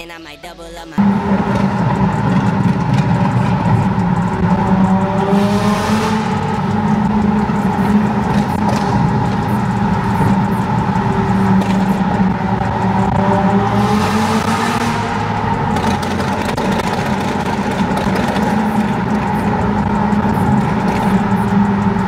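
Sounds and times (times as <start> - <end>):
road noise: 0.6 - 22.0
car engine droning: 1.0 - 22.0.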